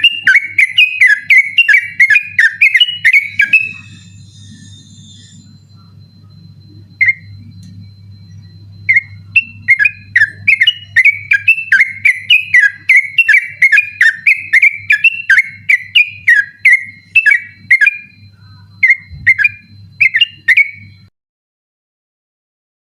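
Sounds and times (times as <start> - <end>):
bird singing whistled notes: 0.0 - 21.1
low hum: 0.0 - 21.1.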